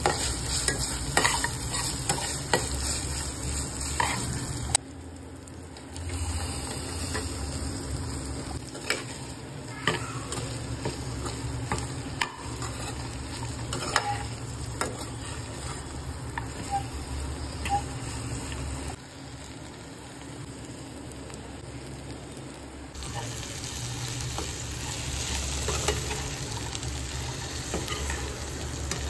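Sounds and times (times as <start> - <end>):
okra sizzling in oil: 0.0 - 29.0.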